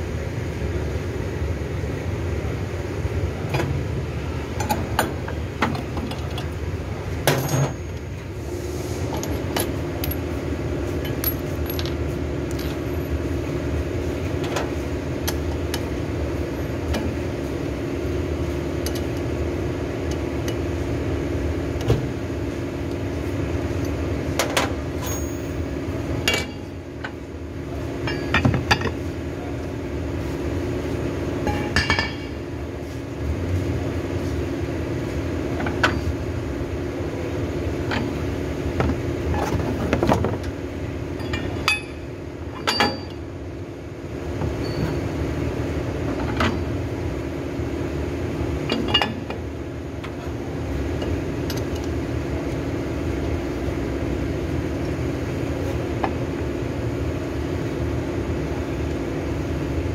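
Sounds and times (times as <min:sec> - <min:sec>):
brake lathe humming: 0:00.4 - 0:59.9.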